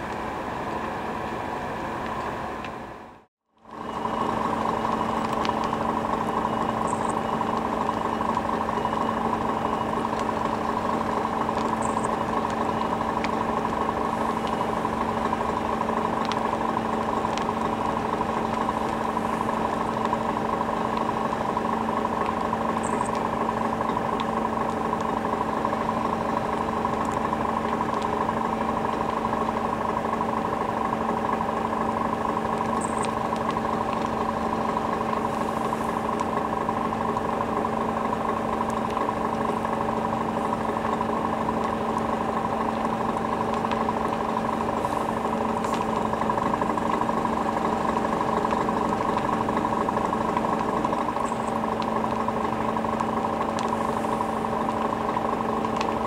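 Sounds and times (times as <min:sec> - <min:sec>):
fire engine engine running: 0:00.0 - 0:56.0.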